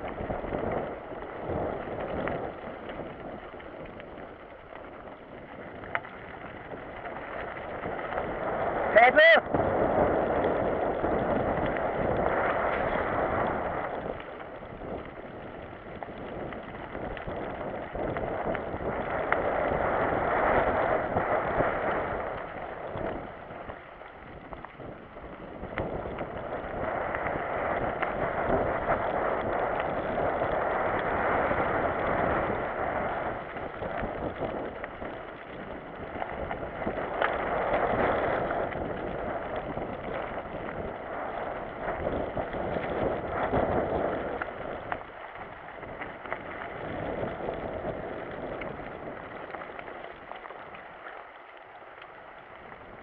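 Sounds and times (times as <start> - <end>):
tyre and wind rush: 0.0 - 50.8.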